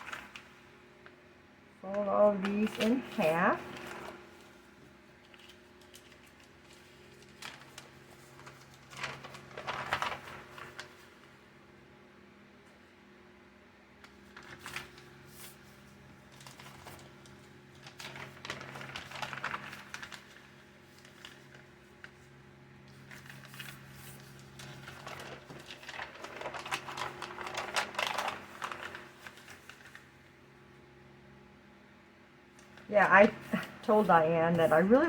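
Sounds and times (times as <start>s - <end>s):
paper rustling and crackling: 0.0s - 11.6s, 14.0s - 30.6s, 32.6s - 35.0s
low steady hum: 0.0s - 35.0s.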